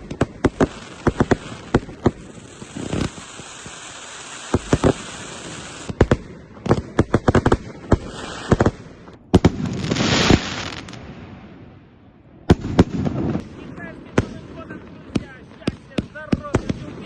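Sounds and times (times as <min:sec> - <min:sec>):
fireworks banging and crackling: 0:00.0 - 0:11.5, 0:12.4 - 0:17.0.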